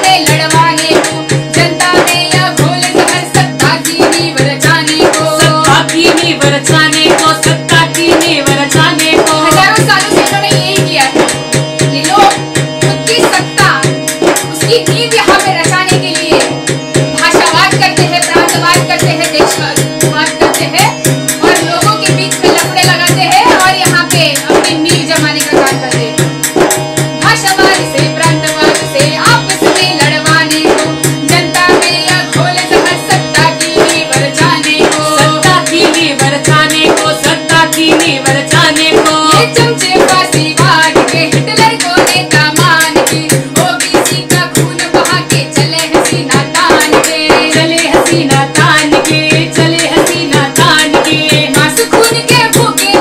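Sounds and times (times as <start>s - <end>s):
women singing: 0.0s - 26.2s, 27.2s - 53.0s
harmonium chords: 0.0s - 53.0s
stick-beaten drum: 0.0s - 53.0s.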